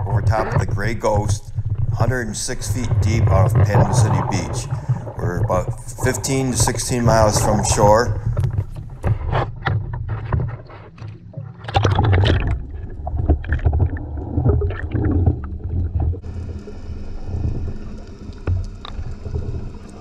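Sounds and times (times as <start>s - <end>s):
water splashing against camera housing: 0.0s - 16.2s
muffled underwater rumble: 0.0s - 20.0s.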